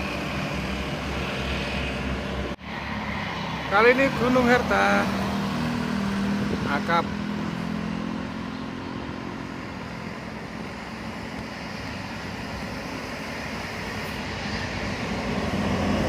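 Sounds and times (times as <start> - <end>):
bus engine hum: 0.0 - 16.0
tyre and road noise: 0.0 - 16.0
vehicle approaching: 0.0 - 16.0.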